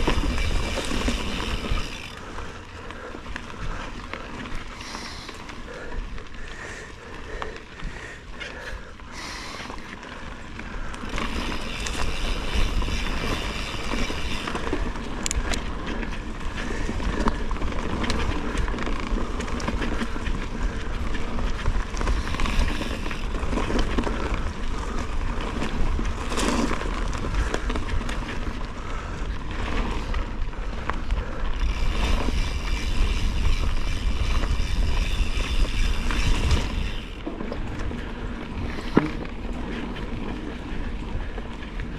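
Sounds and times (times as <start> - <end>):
bike rattling over bumps: 0.0 - 41.9
bike tyres rolling on dirt: 0.0 - 41.9
wind rumbling on microphone: 0.0 - 41.9.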